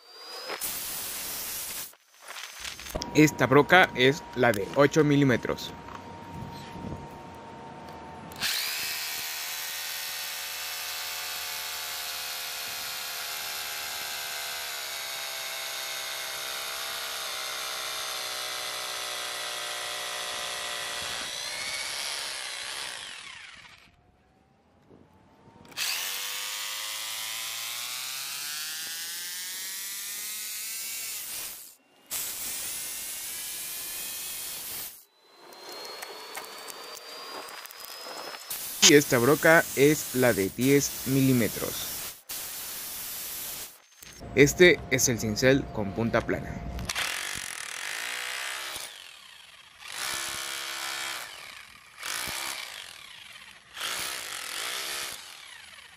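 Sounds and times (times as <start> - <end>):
hammer drill boring into concrete: 0.0 - 5.0, 8.4 - 24.0, 25.7 - 44.2, 46.9 - 55.9.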